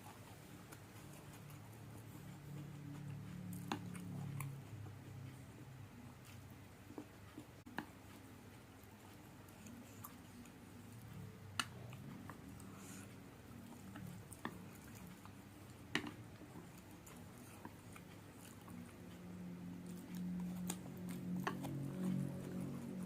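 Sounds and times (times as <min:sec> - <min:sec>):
person chewing noodles: 0:00.0 - 0:23.0.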